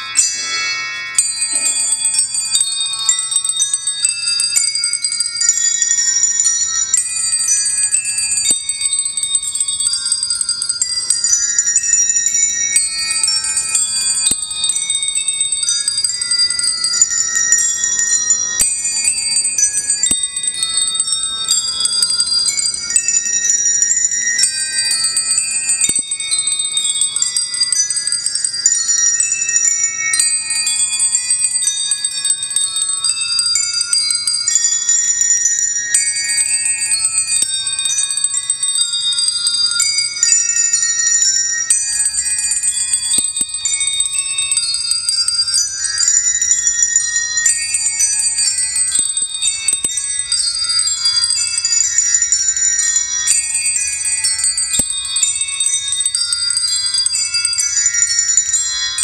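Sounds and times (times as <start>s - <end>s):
handbells ringing: 0.0s - 59.0s.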